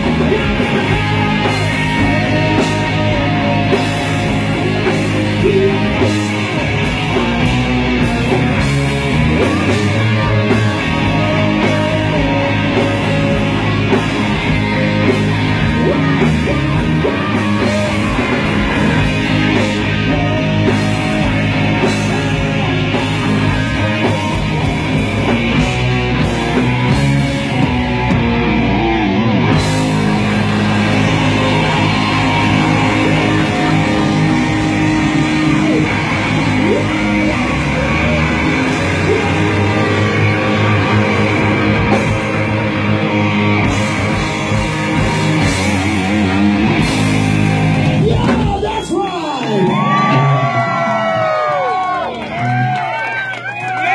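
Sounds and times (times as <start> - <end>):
bass guitar: 0.0 - 53.9
distorted electric guitars: 0.0 - 53.9
drums: 0.0 - 53.9.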